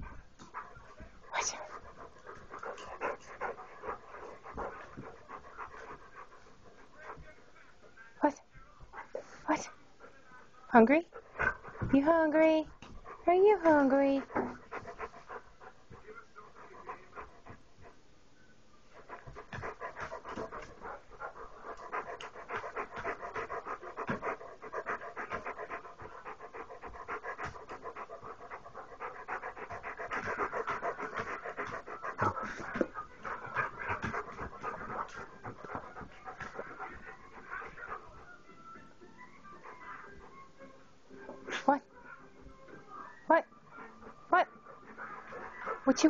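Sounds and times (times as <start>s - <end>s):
dog panting: 0.0s - 18.0s, 18.8s - 42.7s, 43.4s - 46.0s.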